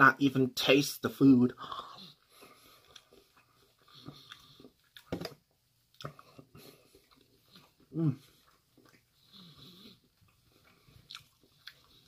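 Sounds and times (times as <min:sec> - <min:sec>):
person chewing food: 0:01.6 - 0:12.0.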